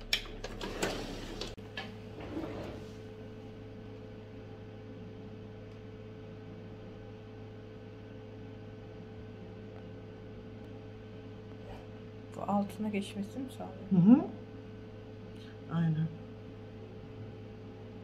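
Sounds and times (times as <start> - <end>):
machine electrical hum: 0.0 - 18.0.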